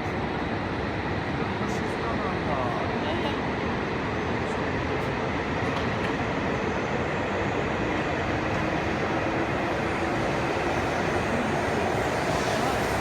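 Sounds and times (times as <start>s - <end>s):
high-speed train rushing: 0.0s - 13.0s.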